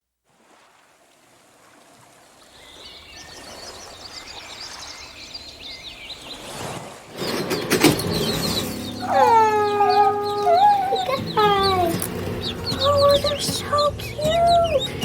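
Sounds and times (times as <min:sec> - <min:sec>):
birds chirping rapidly: 0:02.6 - 0:15.0.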